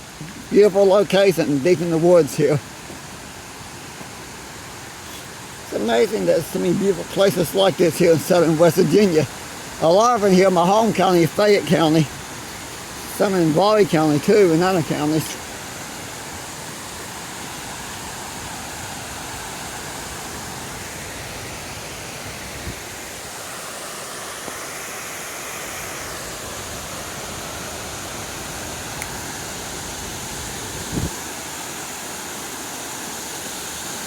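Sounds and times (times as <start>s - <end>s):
creek water rushing over rocks: 0.0s - 34.0s.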